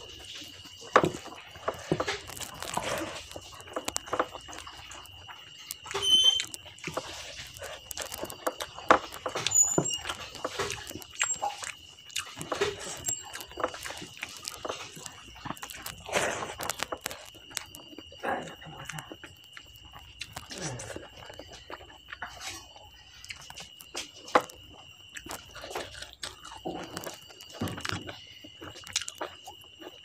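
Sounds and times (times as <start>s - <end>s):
wet chewing and lip smacking: 0.0s - 30.0s.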